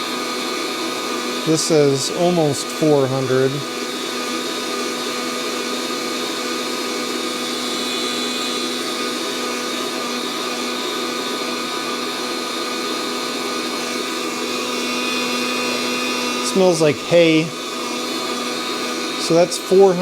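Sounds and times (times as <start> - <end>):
coffee roaster fan blowing: 0.0 - 20.0.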